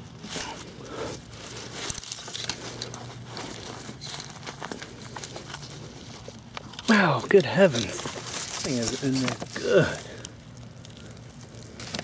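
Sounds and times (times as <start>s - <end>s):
roots snapping: 0.0s - 12.0s
soil and roots rustling: 0.0s - 12.0s.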